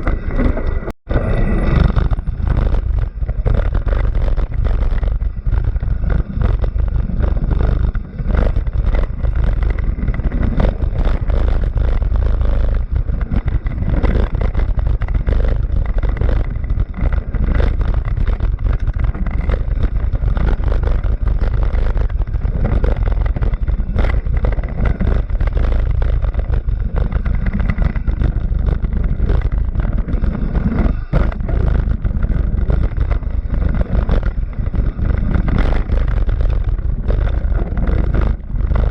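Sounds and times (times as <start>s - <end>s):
race car engine rumbling: 0.0s - 38.9s.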